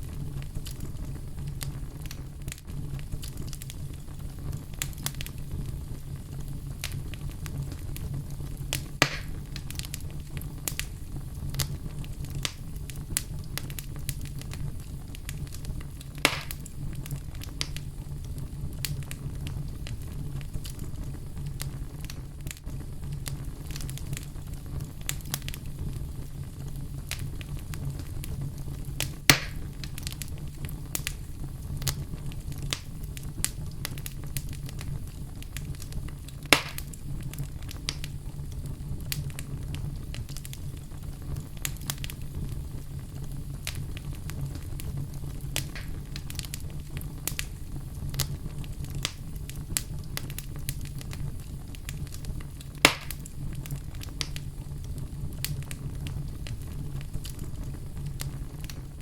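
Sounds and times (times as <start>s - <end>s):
fire crackling: 0.0s - 59.0s
fire pops: 0.0s - 59.0s
fire rumbling: 0.0s - 59.0s.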